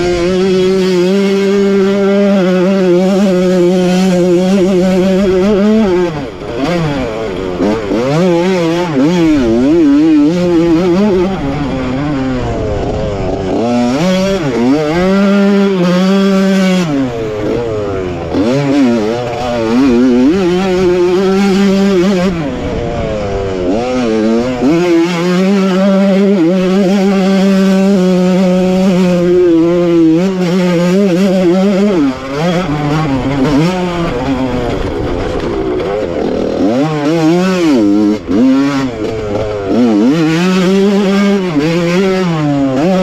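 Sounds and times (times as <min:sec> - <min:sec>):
two-stroke motorcycle engine revving: 0:00.0 - 0:43.0.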